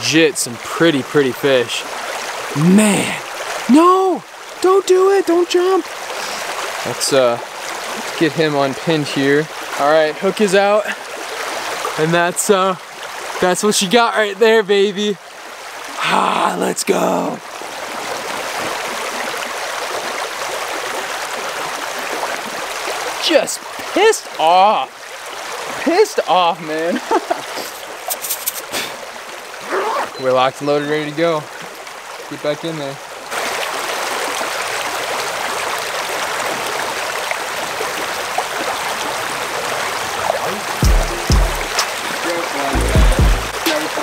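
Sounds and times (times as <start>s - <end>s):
water flowing over rocks: 0.0s - 44.0s.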